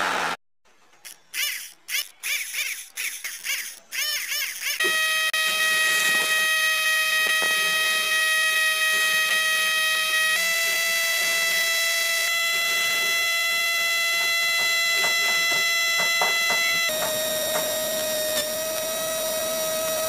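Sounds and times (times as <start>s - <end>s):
electric motor whining: 1.4s - 20.0s.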